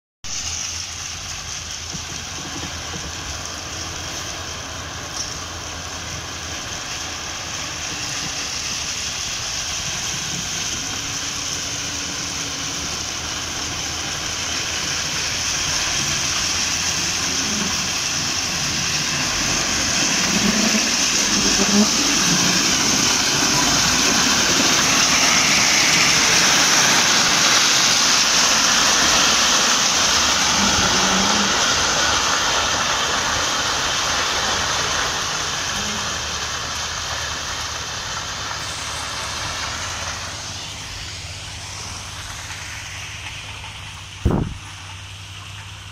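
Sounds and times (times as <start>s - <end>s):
lorry engine rumbling: 0.2s - 45.9s
stone pouring onto rails: 6.4s - 45.0s.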